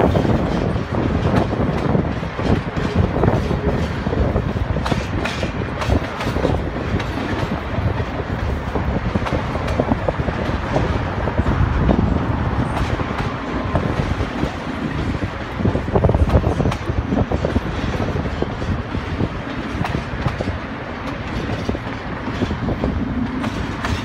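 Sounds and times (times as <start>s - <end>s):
train wheels rumbling on rails: 0.0s - 24.0s
wheels clacking over track: 0.0s - 24.0s.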